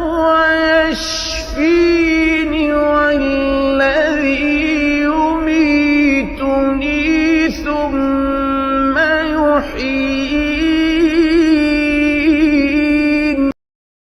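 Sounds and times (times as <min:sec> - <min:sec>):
melodic recitation by one voice: 0:00.0 - 0:13.6.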